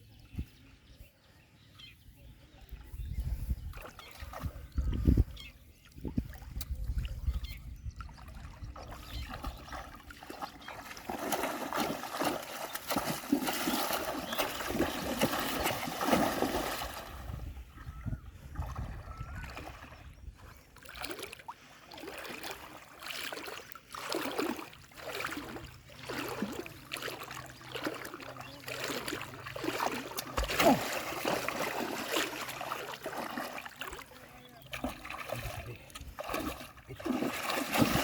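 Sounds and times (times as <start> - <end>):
water splashing and sloshing: 2.7 - 38.0.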